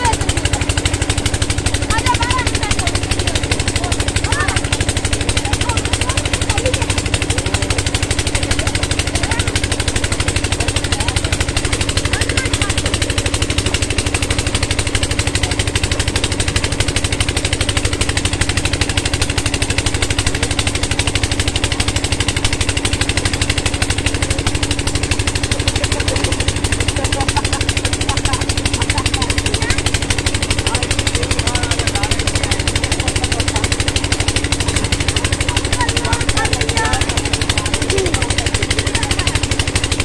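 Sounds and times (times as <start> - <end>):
pump engine knocking: 0.0 - 40.0.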